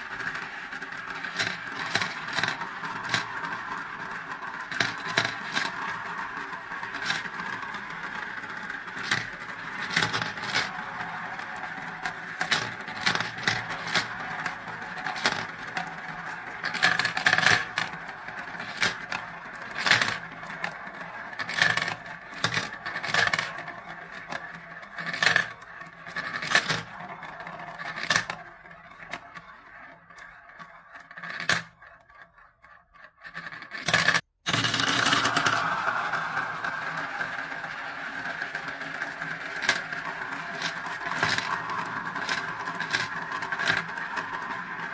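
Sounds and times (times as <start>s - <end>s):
marbles rolling in plastic bowls: 0.0s - 44.9s
marbles clicking together: 0.1s - 27.0s, 34.0s - 44.9s.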